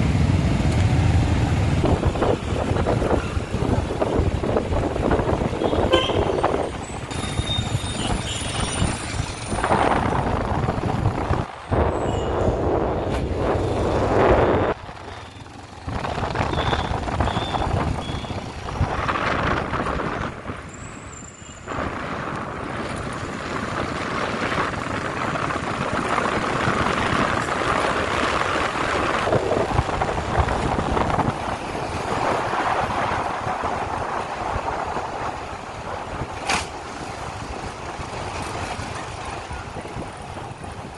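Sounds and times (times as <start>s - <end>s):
wind rushing over microphone: 0.0s - 15.1s, 15.7s - 21.0s, 21.6s - 40.9s
motorcycle engine and road noise: 0.0s - 40.9s.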